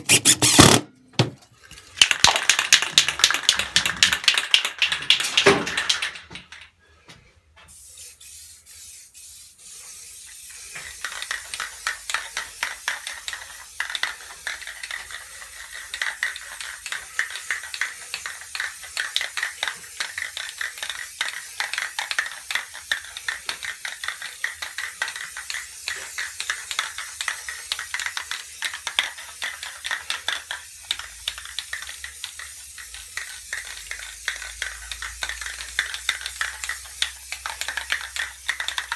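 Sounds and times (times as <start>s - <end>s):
spray paint can hissing: 0.0s - 0.8s, 2.0s - 6.1s, 7.7s - 38.9s.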